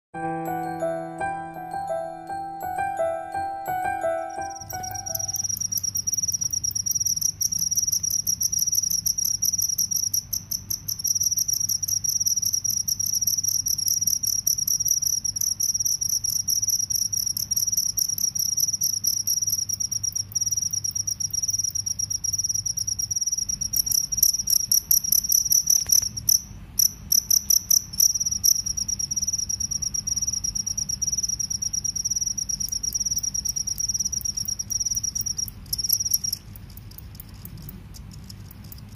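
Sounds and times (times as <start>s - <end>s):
crickets chirping: 3.4s - 38.9s.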